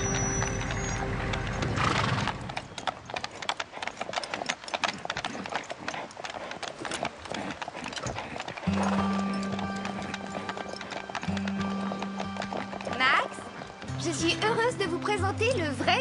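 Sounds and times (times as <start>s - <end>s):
horse hooves on hard ground: 0.0s - 16.0s.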